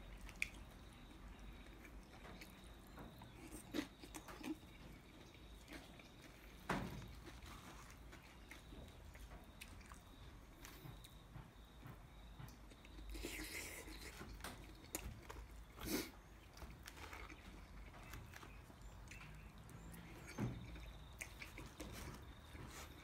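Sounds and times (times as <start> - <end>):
chewing: 0.0 - 23.0.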